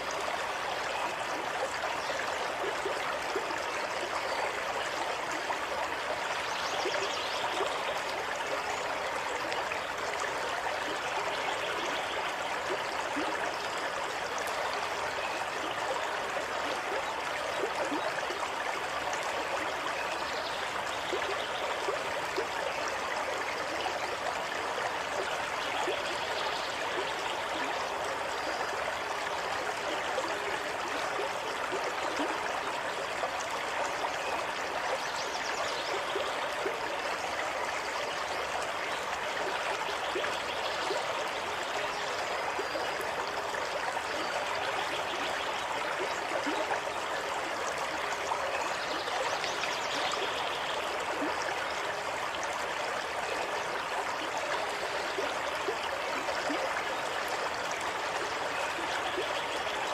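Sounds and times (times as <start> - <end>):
stream water running over stones: 0.0 - 59.9.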